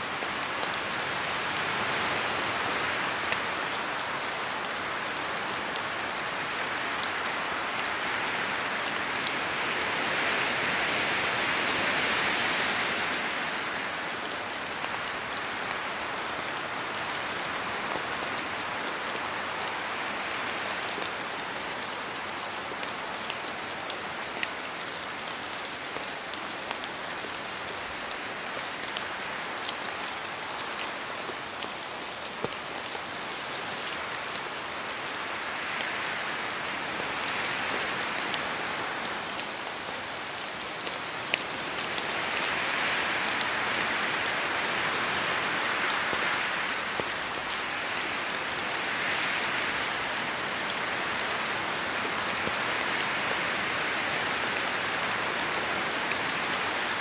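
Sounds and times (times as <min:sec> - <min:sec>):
steady rain in a forest: 0:00.0 - 0:57.0
wind through trees: 0:00.0 - 0:57.0.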